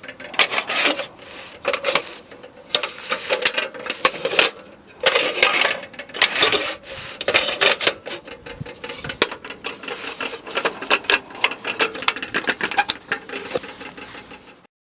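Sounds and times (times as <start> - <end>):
metal lamp parts rattling: 0.0 - 14.6.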